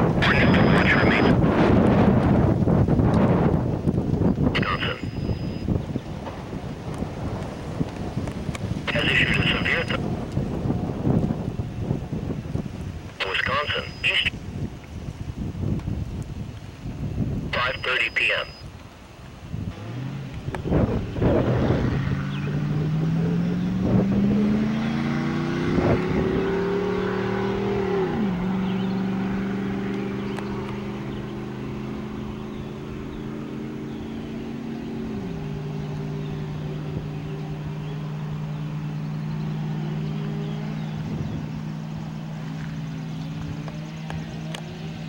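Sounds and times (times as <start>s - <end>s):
car engine accelerating: 0.0s - 16.0s, 19.2s - 45.0s.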